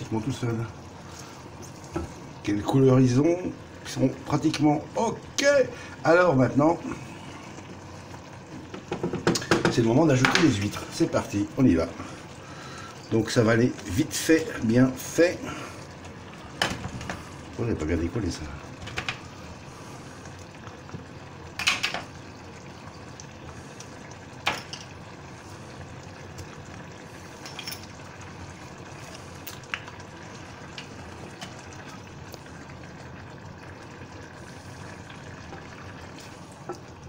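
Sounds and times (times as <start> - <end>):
sauce simmering in saucepan: 0.0 - 37.0.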